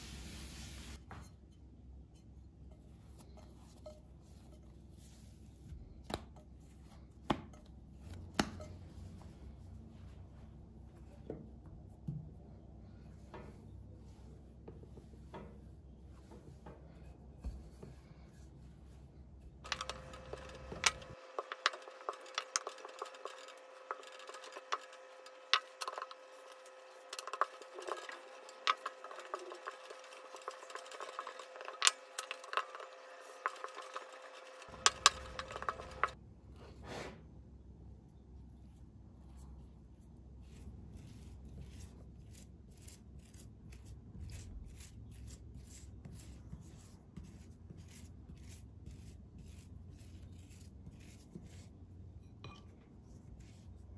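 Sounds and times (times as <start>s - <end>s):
hands working dough in bowl: 2.2s - 36.2s, 39.2s - 53.9s.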